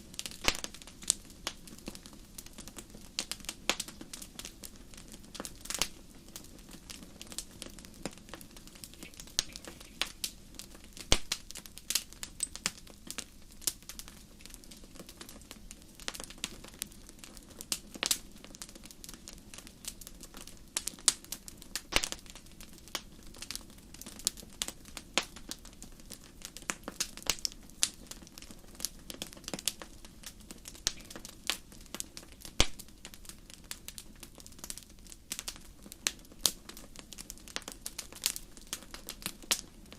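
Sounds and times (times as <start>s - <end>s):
sharp crackles and ticks: 0.1s - 39.9s.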